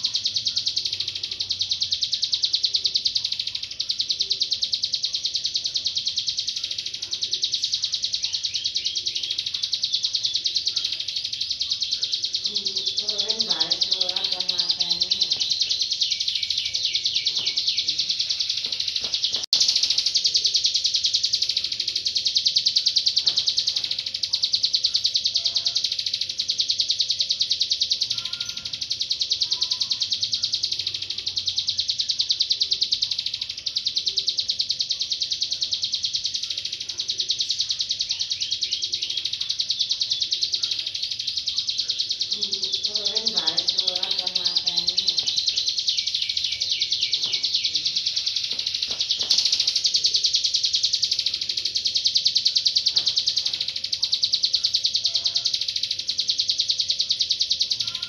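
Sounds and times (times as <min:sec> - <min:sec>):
bird high-pitched trill: 0:00.0 - 0:58.0.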